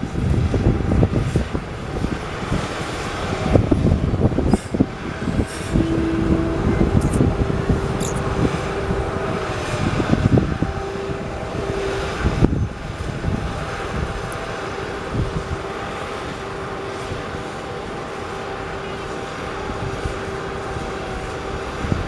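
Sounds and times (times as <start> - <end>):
construction machinery engine drone: 0.0 - 22.0.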